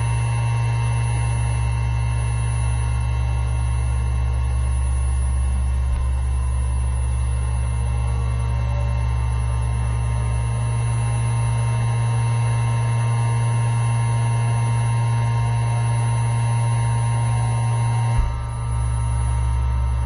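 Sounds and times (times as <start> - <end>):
robot motors humming: 0.9 - 20.0.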